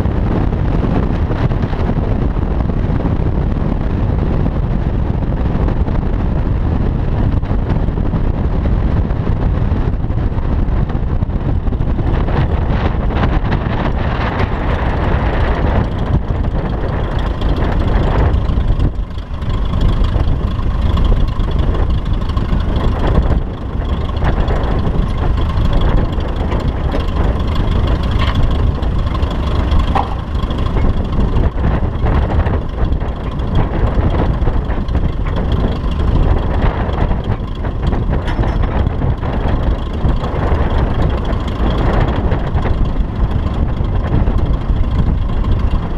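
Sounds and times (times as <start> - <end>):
light aircraft engine droning: 0.0 - 45.9
wind buffeting microphone: 0.0 - 45.9.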